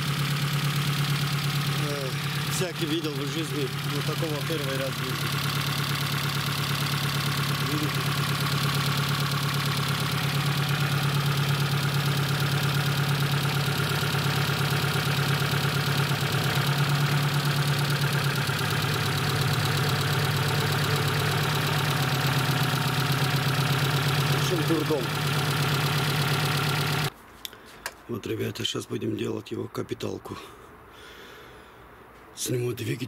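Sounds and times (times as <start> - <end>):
car engine idling: 0.0 - 27.1.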